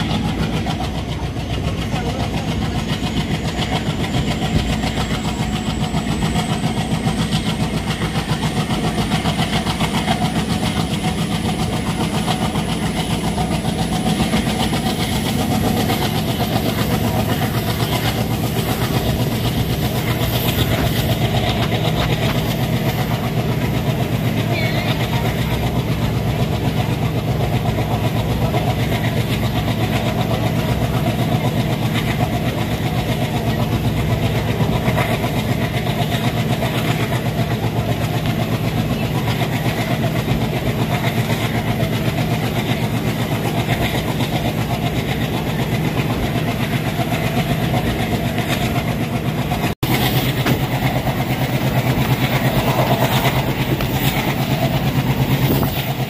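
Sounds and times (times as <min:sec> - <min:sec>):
diesel engine chugging: 0:00.0 - 0:56.0
train running at speed: 0:00.0 - 0:56.0.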